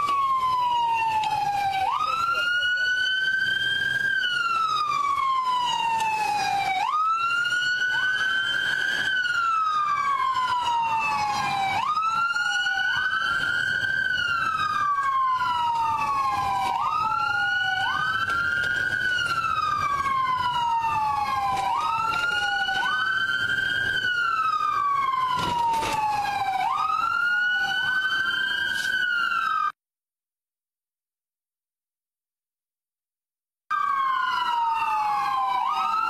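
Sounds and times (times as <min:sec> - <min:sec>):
police sirens wailing: 0:00.0 - 0:29.8, 0:33.7 - 0:36.0.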